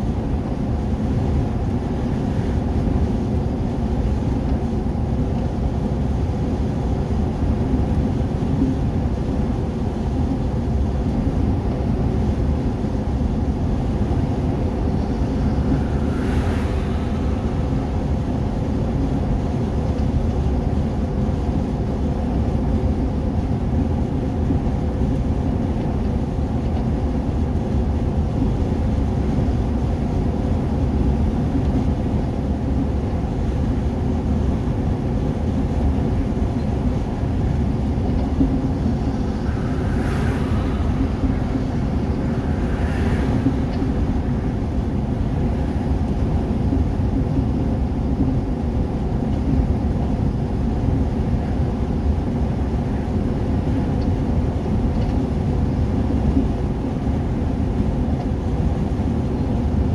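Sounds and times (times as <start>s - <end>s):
road and engine noise inside vehicle: 0.0s - 59.9s.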